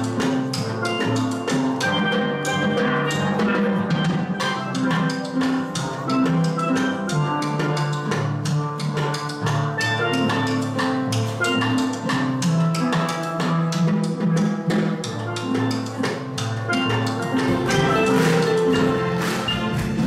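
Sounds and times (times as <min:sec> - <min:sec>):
snare drum and drum kit: 0:00.0 - 0:20.0
steel pan ensemble: 0:00.0 - 0:20.0.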